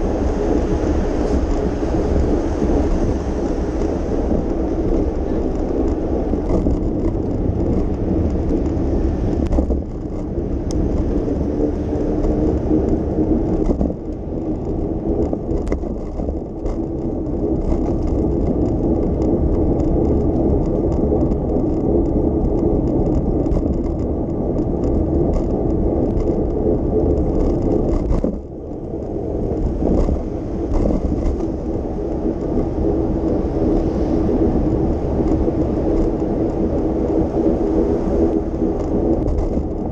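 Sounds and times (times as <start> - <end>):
bicycle tyres rumbling on road: 0.0 - 39.9
bike clicks and rattles: 0.0 - 39.9.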